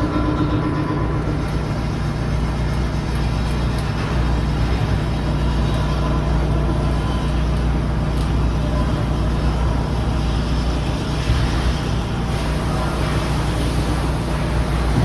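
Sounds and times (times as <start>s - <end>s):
constant hum: 0.0s - 15.0s
low mechanical rumble: 0.0s - 15.0s.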